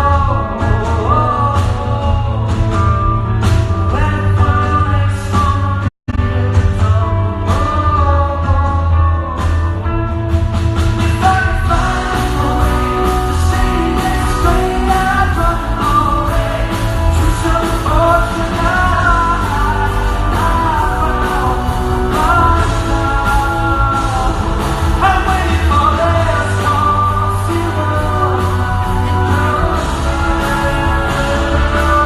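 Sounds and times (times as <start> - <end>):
man singing: 0.0 - 10.2, 10.8 - 32.0
live rock band: 0.0 - 32.0.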